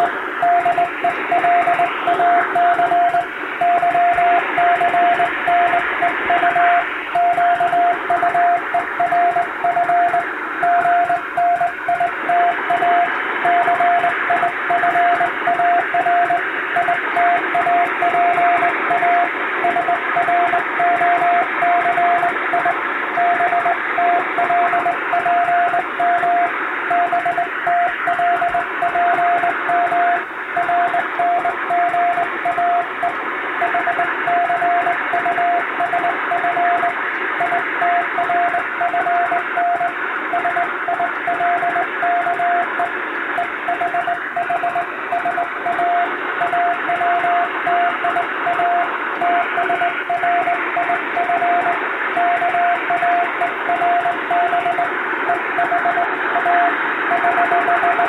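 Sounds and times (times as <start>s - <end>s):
morse code tone: 0.0s - 58.0s
radio hiss: 0.0s - 58.0s.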